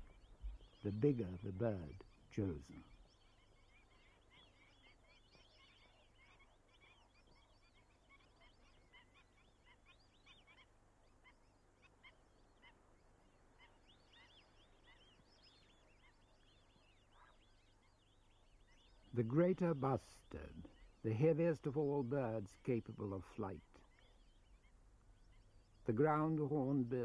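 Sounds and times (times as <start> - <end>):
birds chirping and calling: 0.0 - 27.0.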